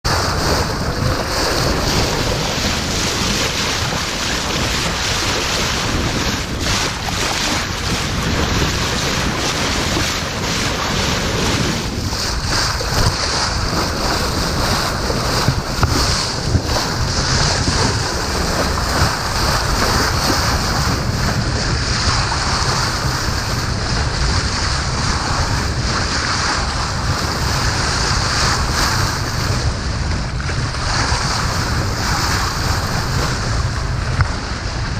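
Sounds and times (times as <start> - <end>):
water washing along boat hull: 0.0 - 34.9
wind buffeting microphone: 0.0 - 34.9.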